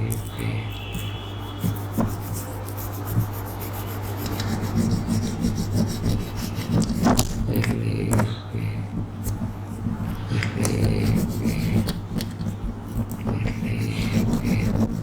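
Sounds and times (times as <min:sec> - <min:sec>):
toothpick scratching: 0:00.0 - 0:15.0.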